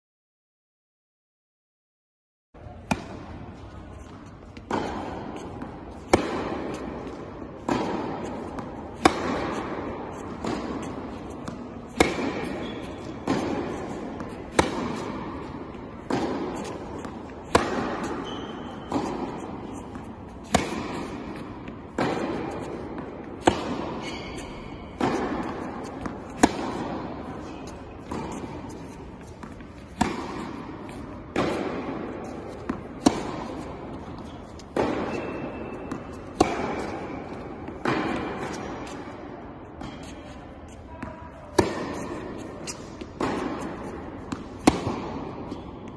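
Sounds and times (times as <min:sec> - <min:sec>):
tennis balls struck with racket: 0:02.6 - 0:45.9.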